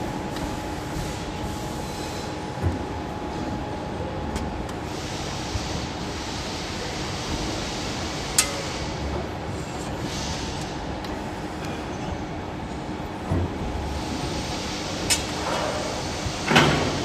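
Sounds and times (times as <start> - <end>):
hydraulic system hum and hiss: 0.0 - 17.0.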